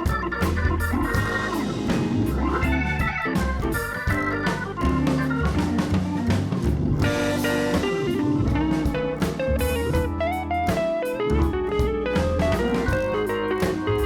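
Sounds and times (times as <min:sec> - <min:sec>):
bass: 0:00.0 - 0:14.0
drum beat: 0:00.0 - 0:14.0
electric guitar melody: 0:00.0 - 0:14.0.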